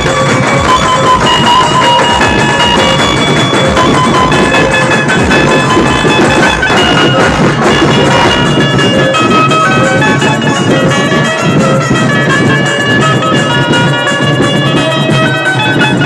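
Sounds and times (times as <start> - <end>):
band music through speakers: 0.0 - 16.0
fast drumming: 0.0 - 16.0.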